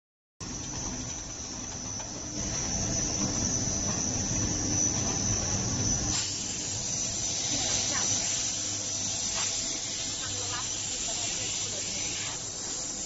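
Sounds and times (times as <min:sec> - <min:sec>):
sanding machine whining drone: 0:00.5 - 0:13.0.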